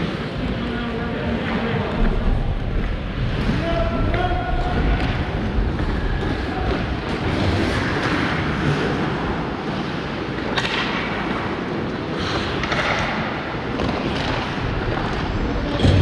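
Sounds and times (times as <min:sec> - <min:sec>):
skates on ice: 0:00.0 - 0:16.0
hockey sticks and puck clacks: 0:01.3 - 0:16.0.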